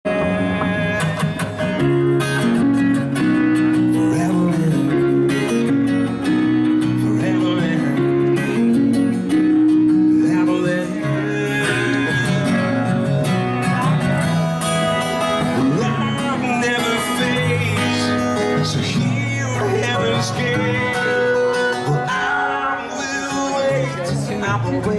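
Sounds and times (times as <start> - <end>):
plucked guitar music: 0.1 - 24.9.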